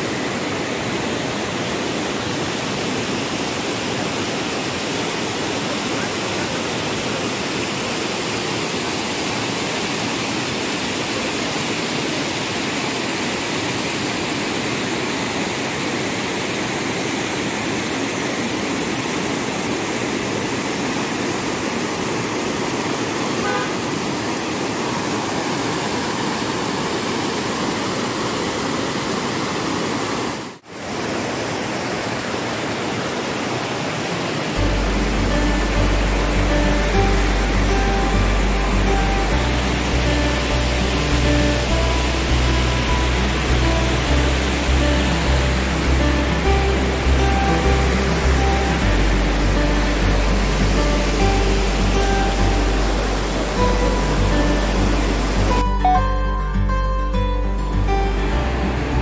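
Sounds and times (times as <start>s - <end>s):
river rapids rushing: 0.0s - 55.8s, 57.5s - 59.0s.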